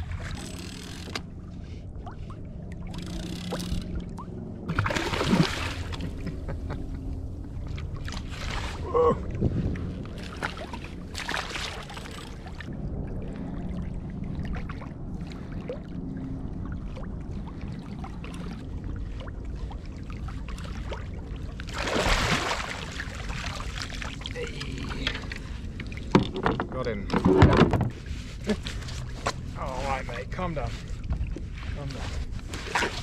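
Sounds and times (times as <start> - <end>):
water lapping against kayak hull: 0.0 - 33.0
wind rumble on microphone: 1.2 - 23.6, 24.2 - 33.0.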